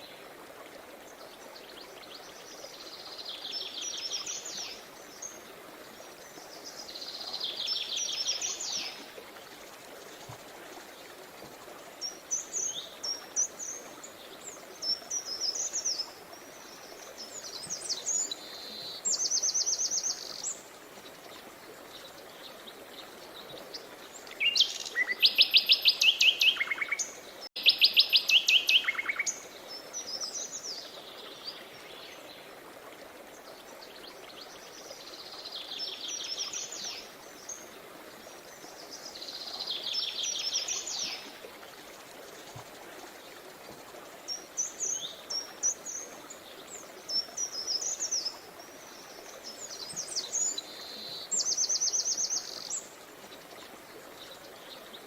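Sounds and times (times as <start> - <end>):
flowing river water: 0.0 - 55.0
songbirds trilling and chirping: 1.0 - 55.0.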